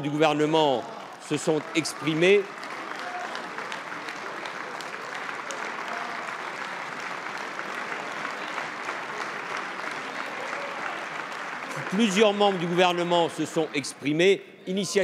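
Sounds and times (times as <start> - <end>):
crowd applause: 0.0 - 14.2.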